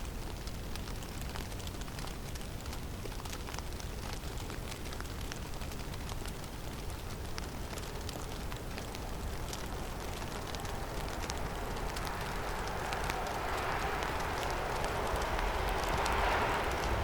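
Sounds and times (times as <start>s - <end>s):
light ticks of falling snow: 0.0s - 17.0s
snowstorm wind through forest: 0.0s - 17.0s.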